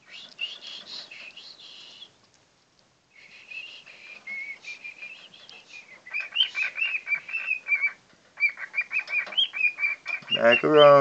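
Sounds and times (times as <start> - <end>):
bird whistling and chirping: 0.0 - 2.1, 3.1 - 11.0.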